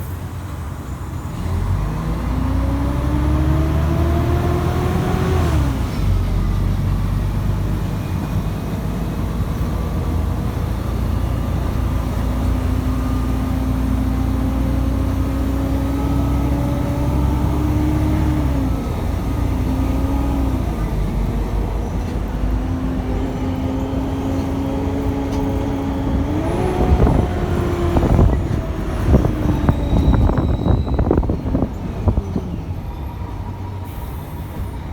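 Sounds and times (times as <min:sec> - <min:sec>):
bus diesel drivetrain whine: 0:00.0 - 0:34.9.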